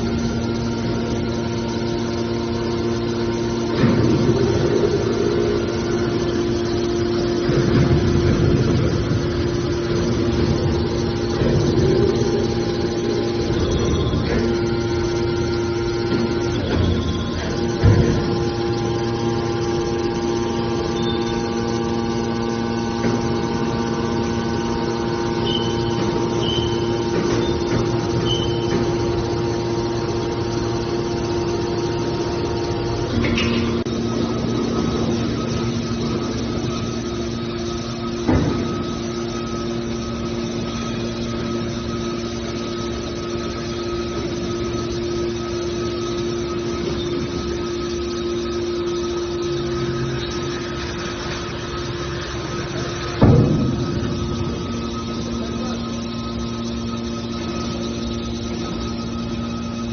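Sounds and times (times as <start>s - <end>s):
hydraulic baler humming: 0.0s - 59.9s.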